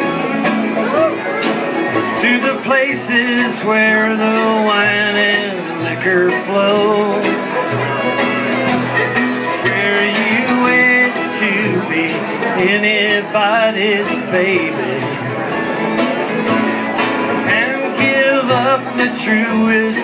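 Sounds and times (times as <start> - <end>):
fiddle melody with vibrato: 0.0 - 20.0
strummed acoustic guitars: 0.0 - 20.0.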